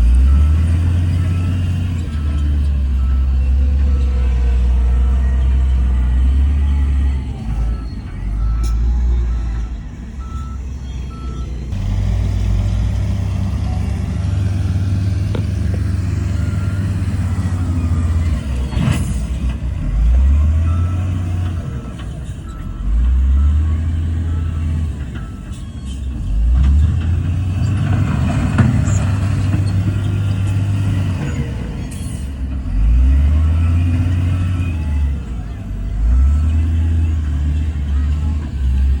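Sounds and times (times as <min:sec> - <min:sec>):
reversing alarm beeping: 0:00.0 - 0:11.7, 0:13.4 - 0:26.5, 0:28.7 - 0:39.0
heavy diesel machinery revving: 0:00.0 - 0:39.0.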